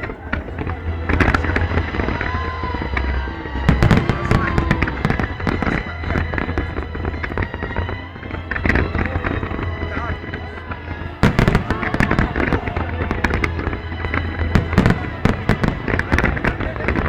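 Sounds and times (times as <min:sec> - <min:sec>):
background music: 0:00.0 - 0:17.0
fireworks popping and banging: 0:00.0 - 0:17.0.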